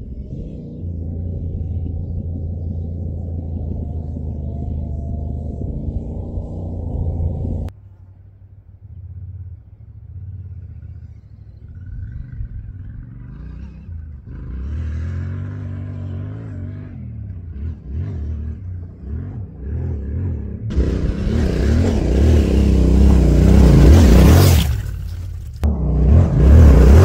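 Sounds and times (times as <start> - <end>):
dirt bike engine revving: 0.0 - 7.7, 11.8 - 27.0.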